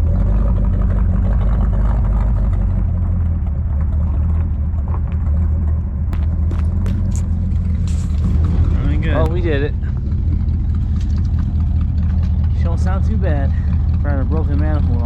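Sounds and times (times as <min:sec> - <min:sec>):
car engine exhaust rumble: 0:00.0 - 0:15.0.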